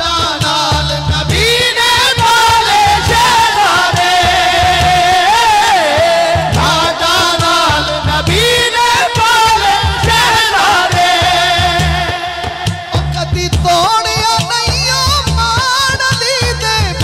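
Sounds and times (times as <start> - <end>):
low drum beat: 0.0 - 17.0.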